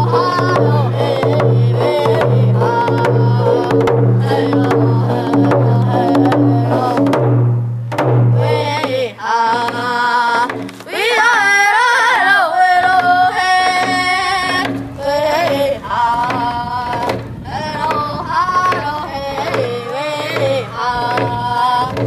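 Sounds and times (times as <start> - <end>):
person singing: 0.0 - 7.3, 8.4 - 22.0
hand drum beat: 0.0 - 22.0.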